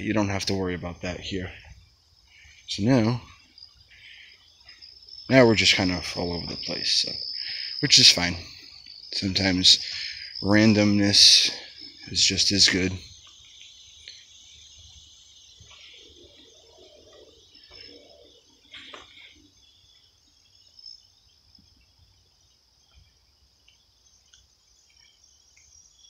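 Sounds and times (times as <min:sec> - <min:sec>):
crickets and insects chirping: 0:00.0 - 0:26.0.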